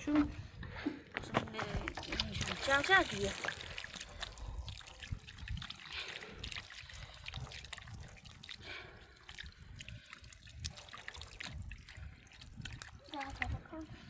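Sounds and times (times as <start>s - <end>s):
water trickling and dripping: 1.6s - 14.0s.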